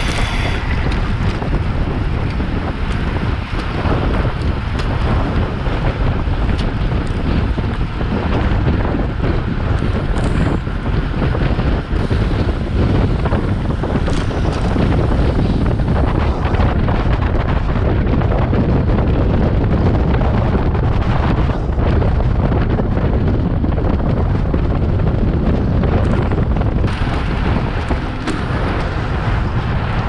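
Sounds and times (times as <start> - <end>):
heavy wind buffeting microphone: 0.0 - 30.0.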